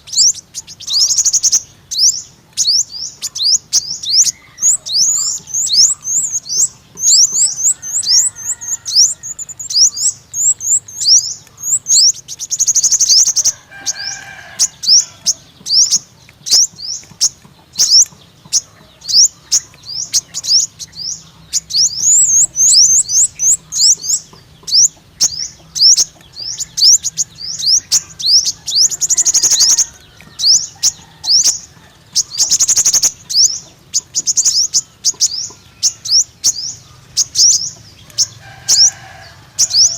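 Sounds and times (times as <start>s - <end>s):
bird buzzy trills: 0.0s - 39.9s
bird chirping high and thin: 0.0s - 39.9s.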